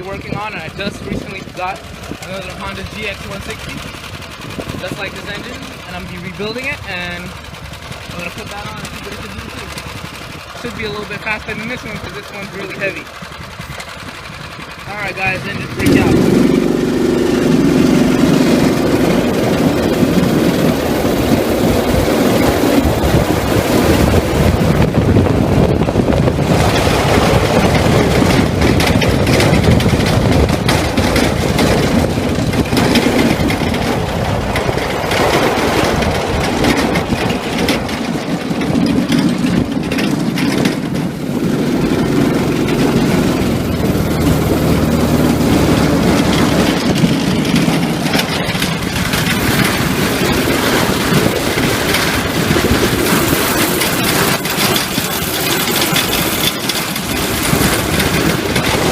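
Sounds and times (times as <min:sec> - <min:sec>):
go-kart engine running: 0:00.0 - 0:58.9.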